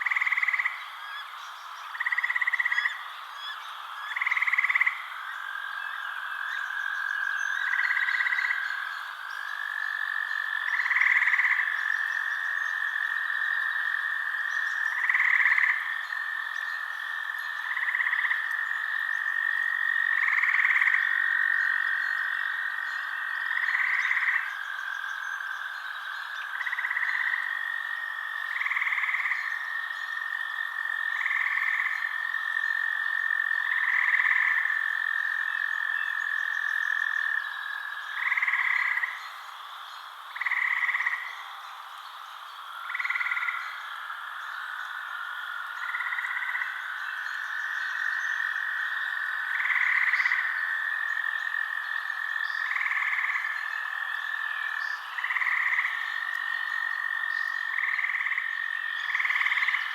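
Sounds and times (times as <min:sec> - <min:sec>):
frog calls: 0:00.0 - 0:59.9.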